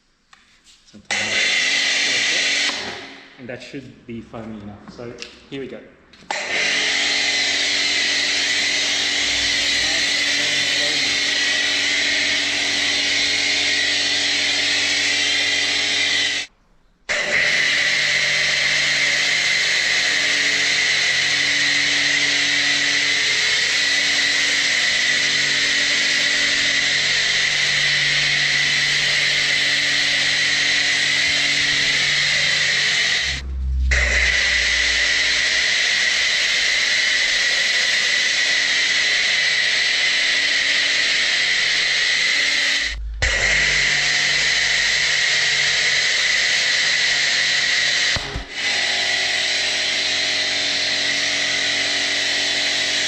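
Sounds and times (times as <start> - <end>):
pressure washer pump whining: 1.1 - 3.4, 6.2 - 16.5, 17.1 - 53.0.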